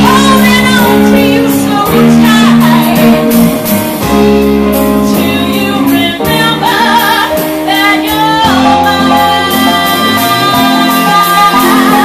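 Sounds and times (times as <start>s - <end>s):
woman singing: 0.0s - 3.7s, 5.0s - 12.0s
live band playing rock: 0.0s - 12.0s.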